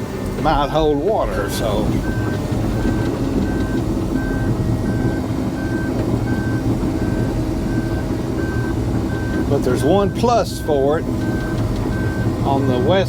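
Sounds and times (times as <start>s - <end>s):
diesel engine running under load: 0.0s - 13.0s
backup alarm beeping: 0.4s - 13.0s.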